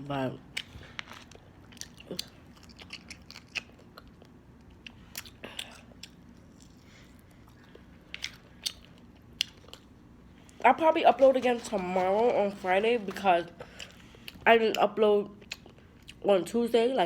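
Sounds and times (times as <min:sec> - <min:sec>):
fried chicken crunching: 0:00.5 - 0:14.4.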